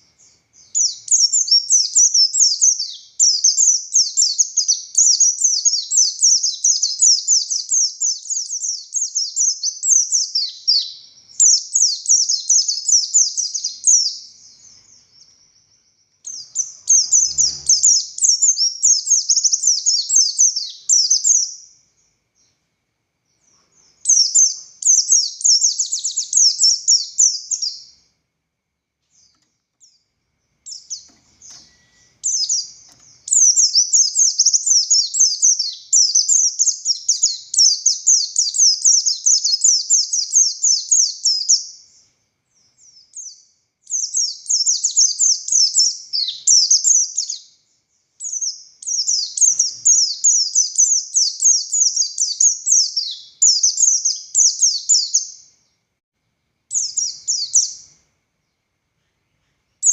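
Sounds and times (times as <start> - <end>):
bird twittering song: 0.0 - 28.2, 29.0 - 55.8, 56.7 - 59.9.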